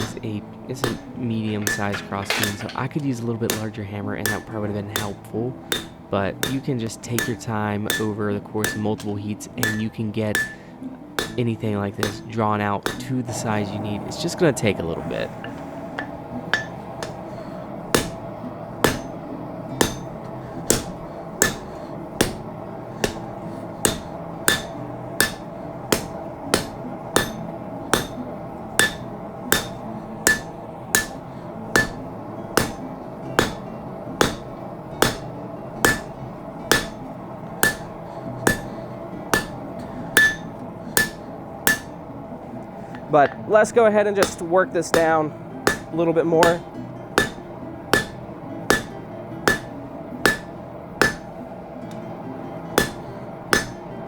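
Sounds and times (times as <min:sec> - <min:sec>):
hammer striking metal on anvil: 0:00.0 - 0:42.1, 0:42.8 - 0:54.0.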